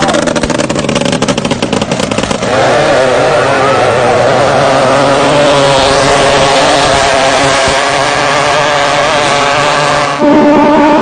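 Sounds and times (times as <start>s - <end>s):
racing boat engine: 0.0s - 11.0s.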